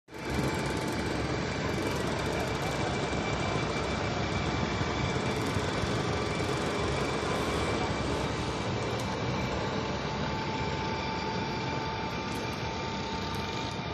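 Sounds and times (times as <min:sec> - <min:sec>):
helicopter rotor and engine: 0:00.1 - 0:13.9
high whine: 0:00.1 - 0:13.9.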